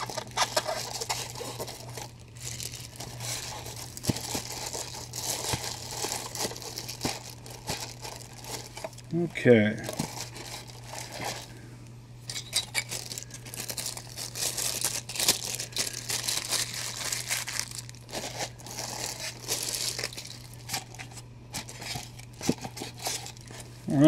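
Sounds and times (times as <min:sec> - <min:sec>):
packaging crinkling: 0:00.0 - 0:11.6, 0:12.3 - 0:23.8.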